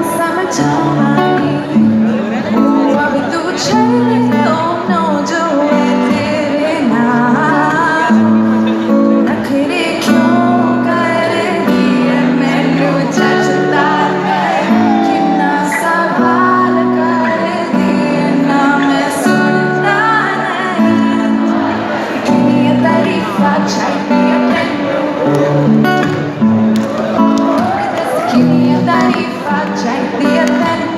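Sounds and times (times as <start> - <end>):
woman singing: 0.0 - 26.4, 27.5 - 30.9
guitar chords: 0.0 - 30.9.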